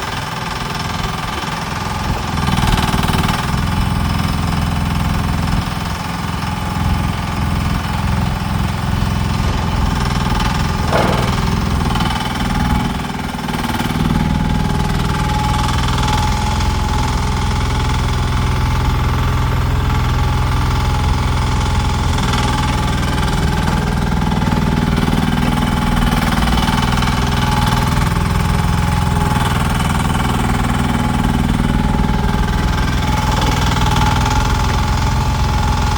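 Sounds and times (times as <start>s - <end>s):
small diesel engine running: 0.0s - 35.9s.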